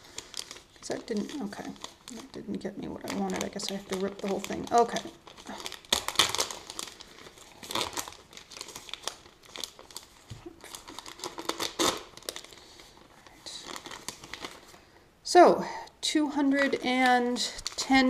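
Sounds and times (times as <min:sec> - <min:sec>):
wrapper tearing and crinkling: 0:00.0 - 0:02.4, 0:03.0 - 0:14.8, 0:16.6 - 0:18.0.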